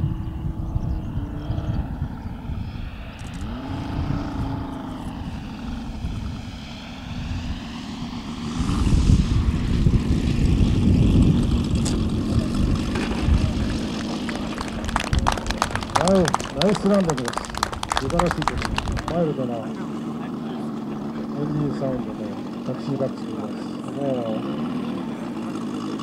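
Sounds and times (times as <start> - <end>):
model plane propeller and engine: 0.0 - 26.0.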